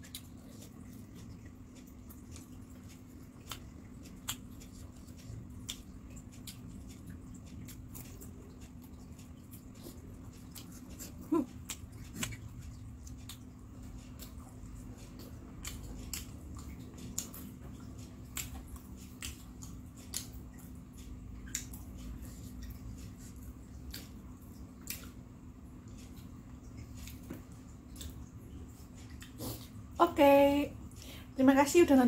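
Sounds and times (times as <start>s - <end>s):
wet chewing mouth clicks: 0.0s - 30.0s
steady low hum: 0.0s - 32.0s.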